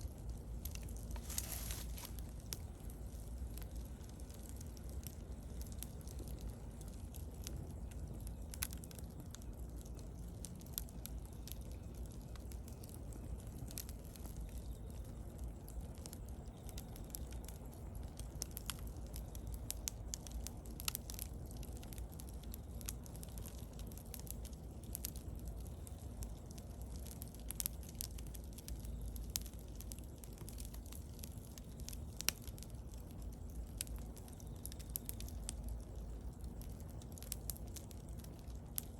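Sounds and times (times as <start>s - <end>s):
bonfire crackles and pops: 0.0s - 38.9s
low rumble of fire: 0.0s - 38.9s.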